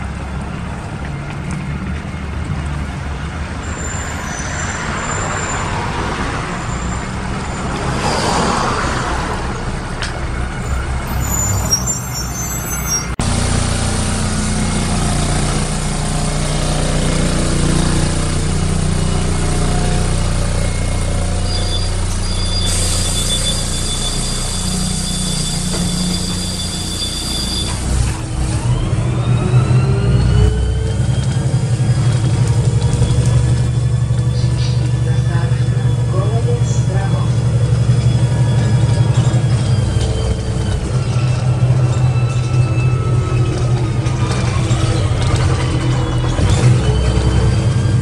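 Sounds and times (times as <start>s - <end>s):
bus diesel engine: 0.0s - 48.0s.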